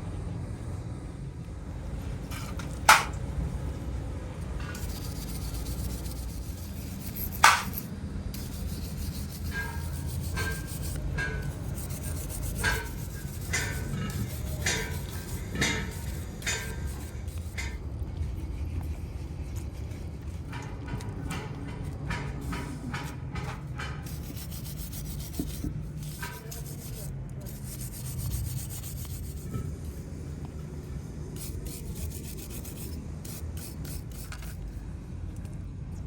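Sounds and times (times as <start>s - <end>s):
rubbing and scraping metal parts: 2.2s - 3.2s, 4.5s - 30.1s, 31.3s - 34.8s.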